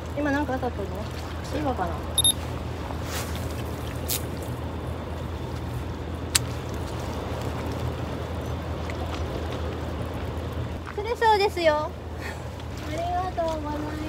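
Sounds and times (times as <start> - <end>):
low rumble of open-air ambience: 0.0 - 14.0.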